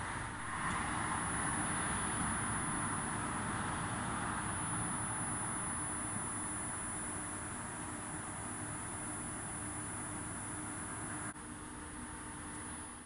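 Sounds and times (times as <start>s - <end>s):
cooling fans whooshing: 0.0s - 13.0s.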